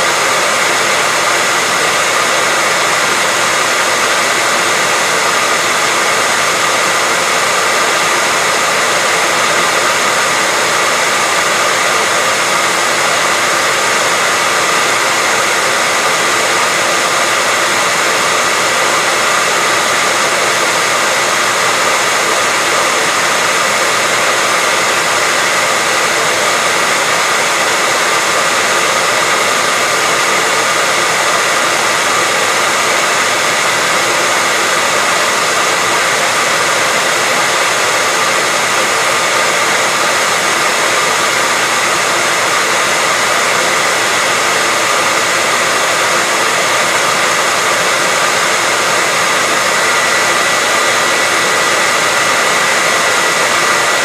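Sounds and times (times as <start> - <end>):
hairdryer blowing air: 0.0 - 54.0.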